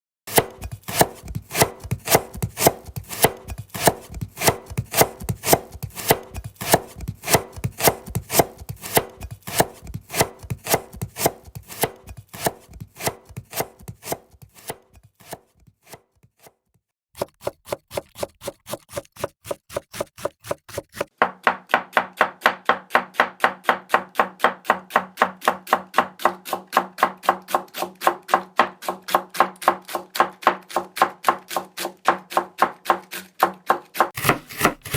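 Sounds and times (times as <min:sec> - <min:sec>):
knife chopping on cutting board: 0:00.3 - 0:16.5, 0:17.2 - 0:24.4, 0:28.6 - 0:34.9.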